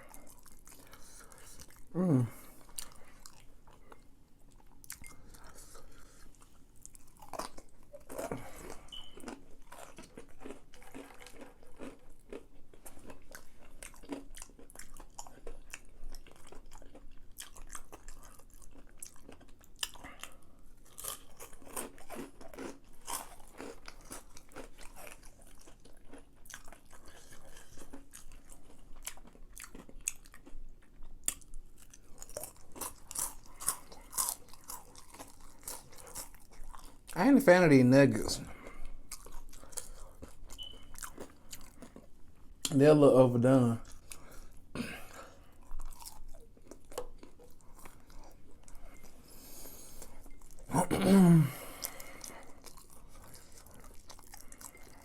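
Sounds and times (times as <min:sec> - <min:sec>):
chewing crispy food: 0:00.0 - 0:50.9, 0:51.5 - 0:55.0.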